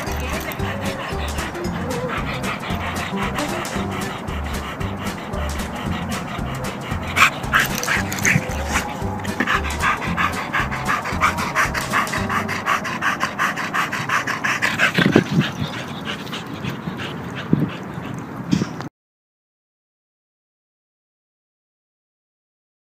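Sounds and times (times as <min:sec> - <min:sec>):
dog panting: 0:00.0 - 0:18.8.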